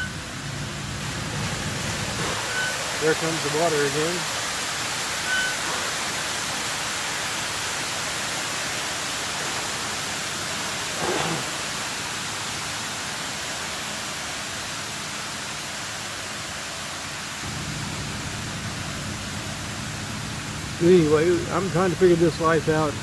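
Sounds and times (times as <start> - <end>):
water splashing in a fountain: 0.0 - 23.0.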